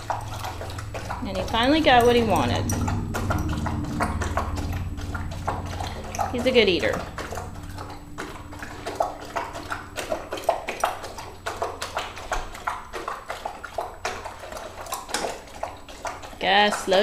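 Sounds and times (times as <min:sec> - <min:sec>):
dog gulping food: 0:00.0 - 0:17.0.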